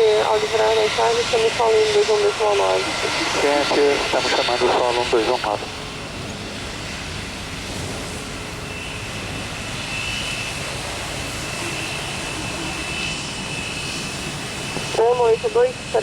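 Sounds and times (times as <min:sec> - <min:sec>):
high jet engine whine: 0:00.0 - 0:16.0
jet engine rumble: 0:00.0 - 0:16.0.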